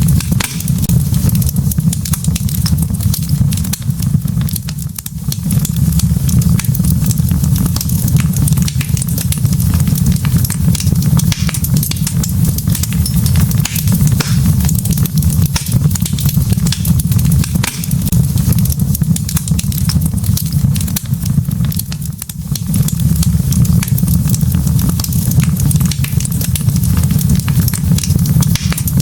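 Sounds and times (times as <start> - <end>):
log fire crackling and popping: 0.0 - 29.0
low roar of flames: 0.0 - 29.0.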